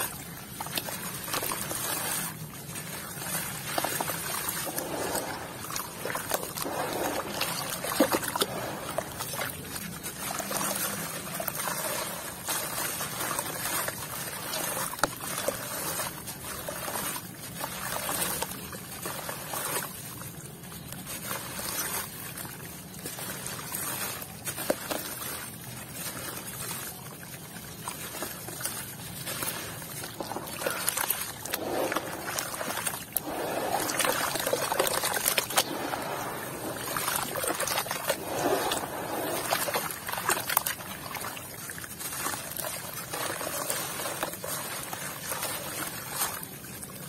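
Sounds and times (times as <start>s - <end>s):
wet dirt squeezed by hand: 0.0s - 16.5s, 19.8s - 47.0s
grains splashing into water: 0.0s - 18.9s, 26.9s - 46.6s.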